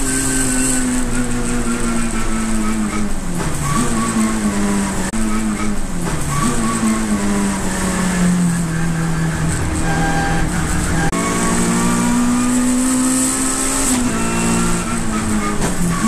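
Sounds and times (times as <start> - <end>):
race car engine from cockpit: 0.0 - 16.0.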